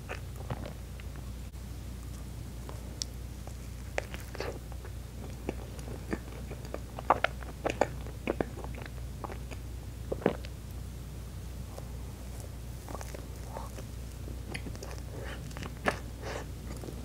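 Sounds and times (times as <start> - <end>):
biting and chewing cake: 0.0 - 1.4, 2.0 - 10.8, 11.6 - 17.0.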